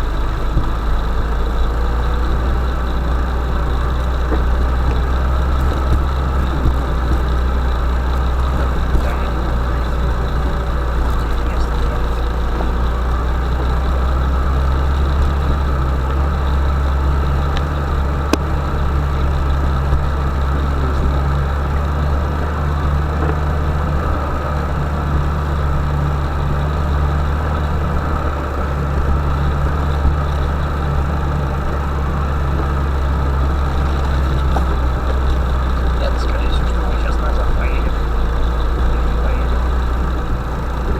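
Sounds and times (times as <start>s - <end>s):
vehicle engine droning: 0.0s - 40.9s.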